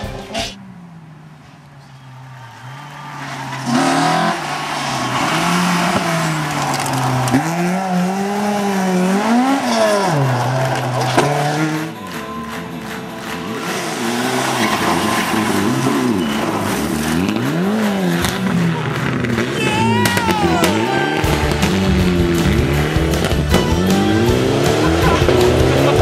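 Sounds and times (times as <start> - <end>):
rally car engine passing: 0.0 - 26.0.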